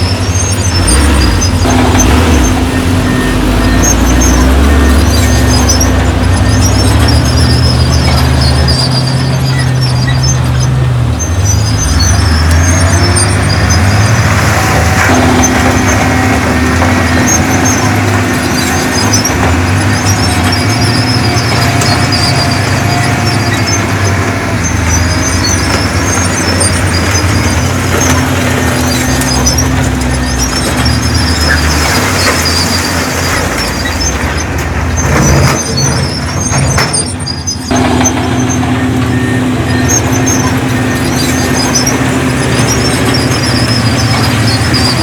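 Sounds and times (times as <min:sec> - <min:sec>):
diesel machinery engine drone: 0:00.0 - 0:45.0
high squeal: 0:00.0 - 0:45.0.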